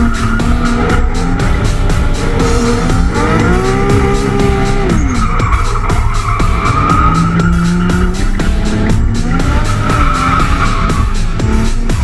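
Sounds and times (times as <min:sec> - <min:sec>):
tyres squealing: 0:00.0 - 0:11.8
car engine revving: 0:00.0 - 0:12.0.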